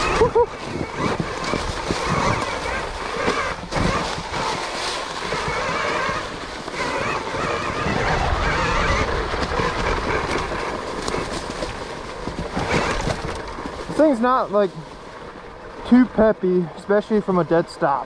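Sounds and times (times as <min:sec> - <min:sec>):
tyres knocking on rough trail: 0:00.0 - 0:15.0.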